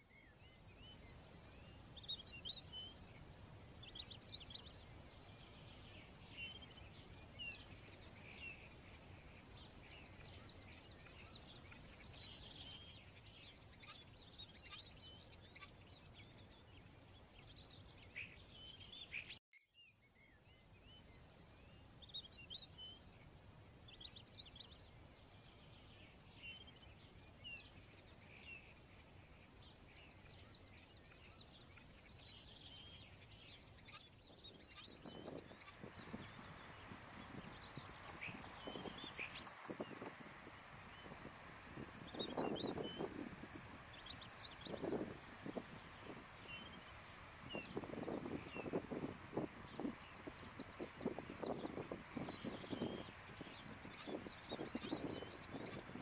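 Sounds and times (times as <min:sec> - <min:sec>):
low steady hiss: 0:00.0 - 0:56.0
small birds chirping: 0:00.0 - 0:56.0.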